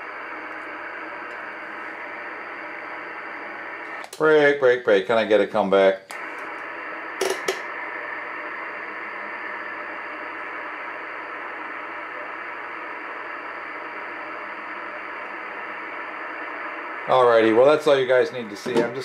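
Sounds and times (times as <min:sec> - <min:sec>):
radio static hissing: 0:00.0 - 0:19.0.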